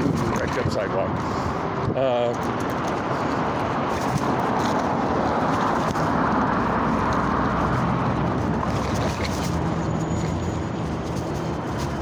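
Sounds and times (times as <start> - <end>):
wind and road noise rushing: 0.0 - 12.0.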